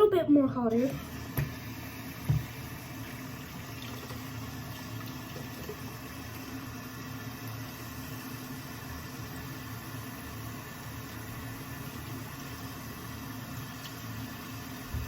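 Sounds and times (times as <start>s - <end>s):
tap water running: 0.0s - 15.0s.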